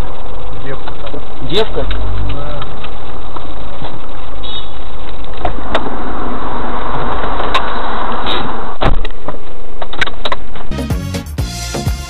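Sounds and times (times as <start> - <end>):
car road and engine noise: 0.0 - 10.7.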